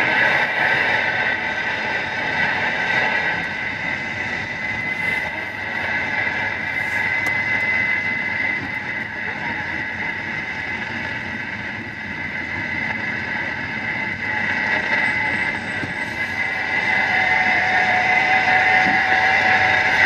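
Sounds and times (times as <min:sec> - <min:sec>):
constant high hum: 0:00.0 - 0:20.0
road and tyre noise: 0:00.0 - 0:20.0.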